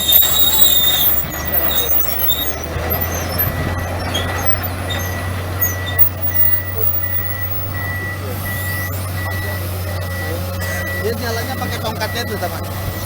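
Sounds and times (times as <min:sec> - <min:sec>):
diesel engine running: 0:00.0 - 0:13.0
high metallic squeaks: 0:00.0 - 0:13.0
travel alarm beeping: 0:00.0 - 0:13.0.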